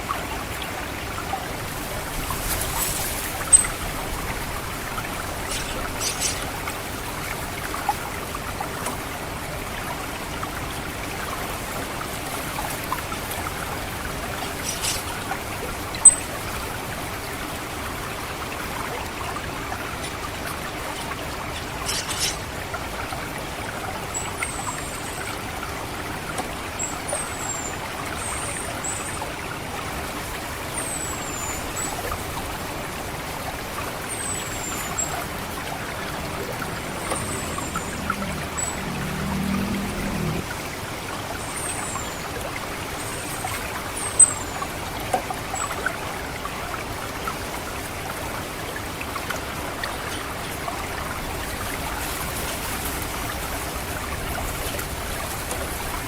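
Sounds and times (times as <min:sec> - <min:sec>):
water trickling: 0:00.0 - 0:56.0.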